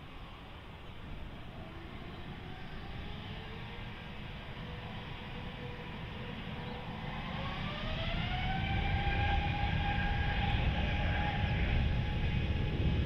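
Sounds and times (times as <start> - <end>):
jet engine low rumble: 0.0 - 13.0
jet engine whine: 0.0 - 13.0.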